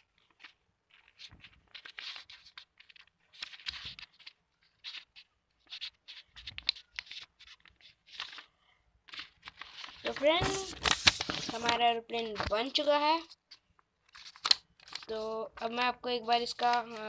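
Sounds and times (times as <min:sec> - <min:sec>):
paper rustling and creasing: 0:00.0 - 0:17.0.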